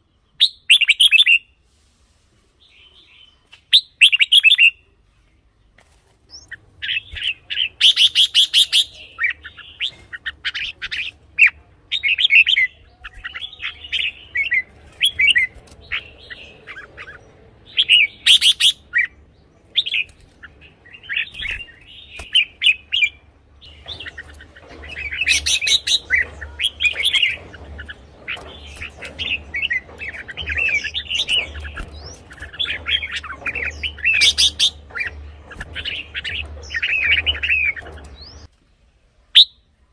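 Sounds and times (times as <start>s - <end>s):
bird chirping song: 0.0s - 1.6s, 2.6s - 5.7s, 6.3s - 39.9s.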